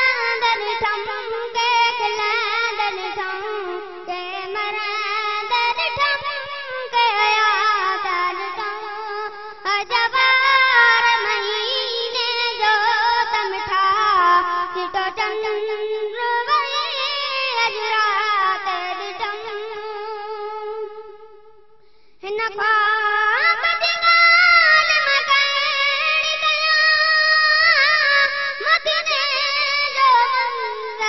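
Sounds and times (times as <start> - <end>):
boy singing unaccompanied: 0.0 - 21.2, 22.2 - 31.0.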